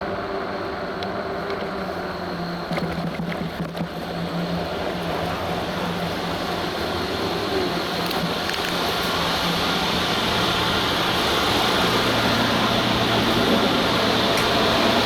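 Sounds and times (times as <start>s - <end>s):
construction machinery engine rumble: 2.8s - 15.0s.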